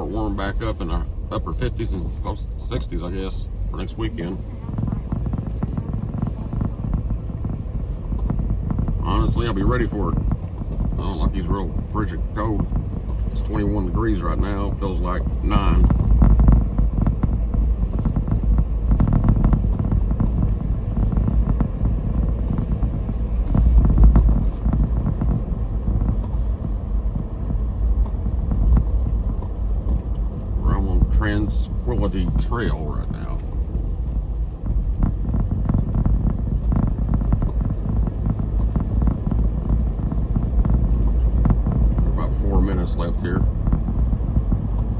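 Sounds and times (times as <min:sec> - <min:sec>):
car road rumble: 0:00.0 - 0:44.9
knocks and rattles: 0:00.0 - 0:44.9.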